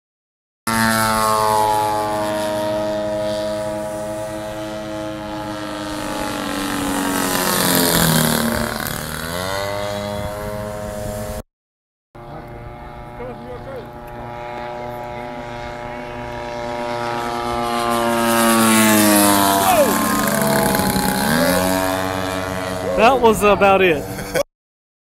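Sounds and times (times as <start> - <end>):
model airplane engine: 0.7 - 11.4, 12.2 - 24.4.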